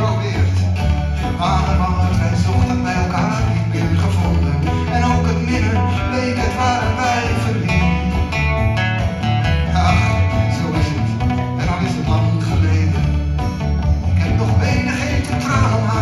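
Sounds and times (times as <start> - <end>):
acoustic guitars strumming: 0.0 - 16.0.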